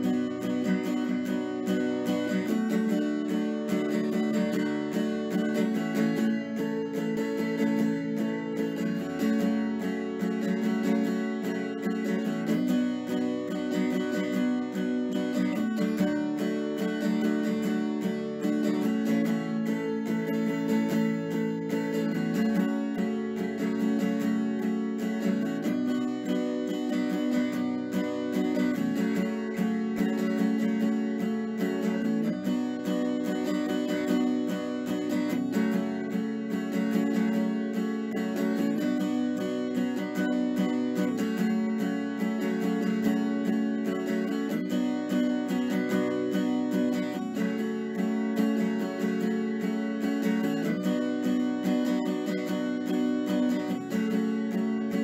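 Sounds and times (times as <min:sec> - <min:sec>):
acoustic guitar strumming chords: 0:00.0 - 0:55.0.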